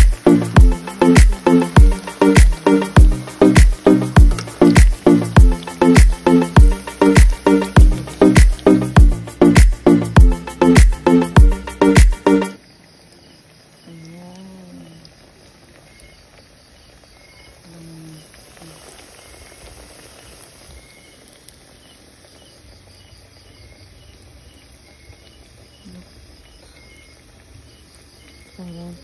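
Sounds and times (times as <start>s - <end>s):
high insect trill: 0.0s - 10.8s, 11.6s - 29.0s
crickets chirping: 0.0s - 29.0s.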